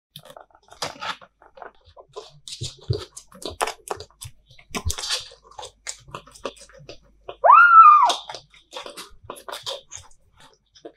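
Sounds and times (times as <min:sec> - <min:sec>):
kitten sucking from a bottle: 0:00.2 - 0:10.9.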